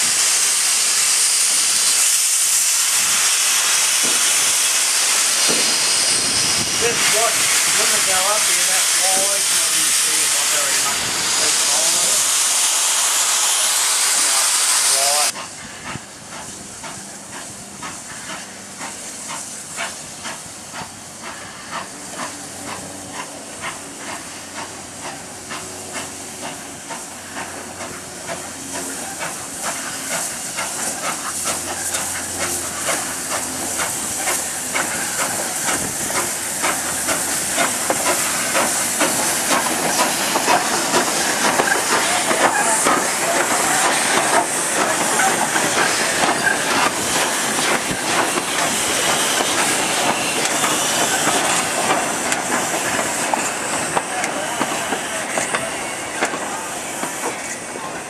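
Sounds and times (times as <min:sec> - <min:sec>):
steam hissing from locomotive: 0:00.0 - 0:58.0
steam locomotive clanking on track: 0:00.0 - 0:58.0.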